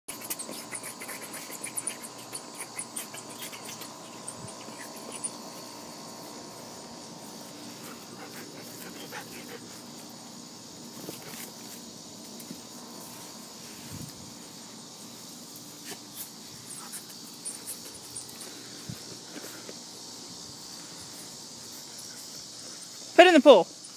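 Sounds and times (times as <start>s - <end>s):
insects chirring: 0.1s - 23.9s
rustles: 0.1s - 23.9s.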